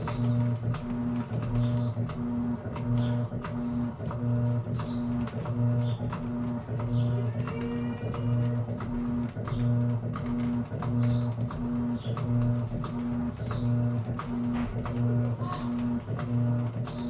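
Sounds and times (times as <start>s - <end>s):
washing machine motor pulsing: 0.0s - 17.0s.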